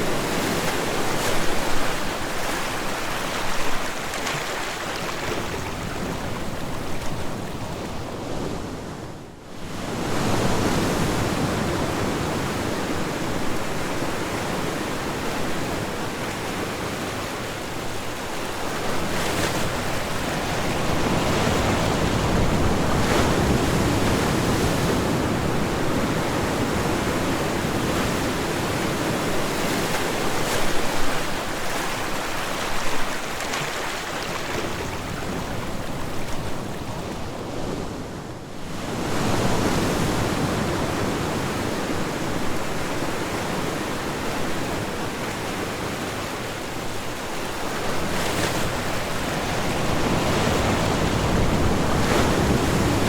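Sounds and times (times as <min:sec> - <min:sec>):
ocean waves breaking: 0:09.9 - 0:53.0.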